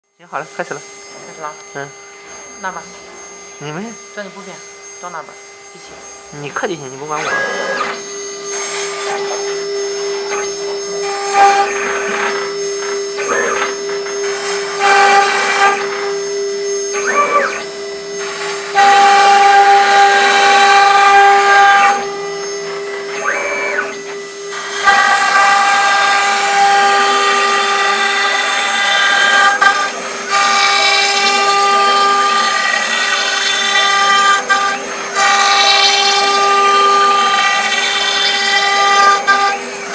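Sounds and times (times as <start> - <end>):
router motor whine: 0.1 - 39.9
higher whining tones: 0.2 - 39.9.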